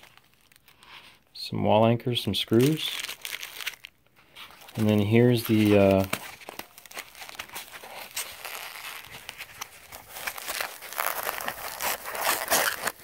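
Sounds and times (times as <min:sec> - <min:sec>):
plastic packaging crinkling: 0:00.0 - 0:01.2, 0:02.5 - 0:13.0.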